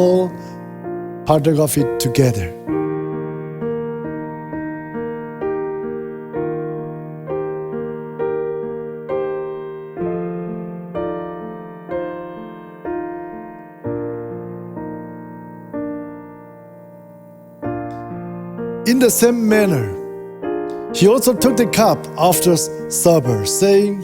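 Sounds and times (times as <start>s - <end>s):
gentle electric piano music: 0.0s - 24.0s.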